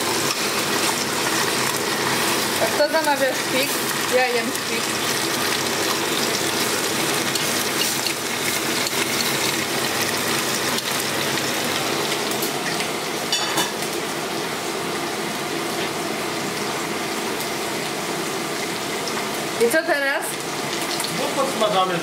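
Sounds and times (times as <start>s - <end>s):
meat sizzling in a pot: 0.0s - 22.0s.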